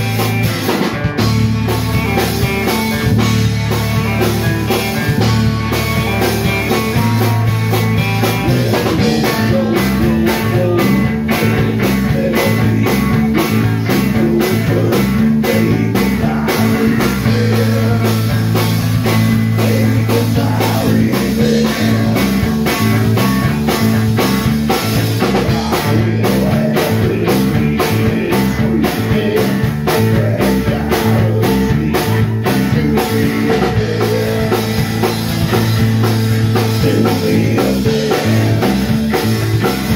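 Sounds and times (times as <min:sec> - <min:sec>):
live rock band playing: 0:00.0 - 0:39.9
person singing: 0:04.1 - 0:23.9, 0:25.2 - 0:35.7, 0:36.5 - 0:39.9.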